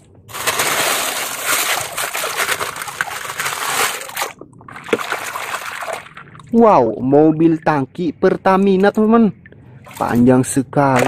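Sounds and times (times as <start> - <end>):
muddy water splashing: 0.3 - 11.0.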